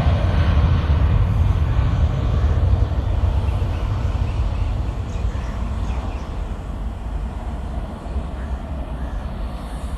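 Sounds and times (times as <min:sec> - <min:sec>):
airplane taking off: 0:00.0 - 0:09.9.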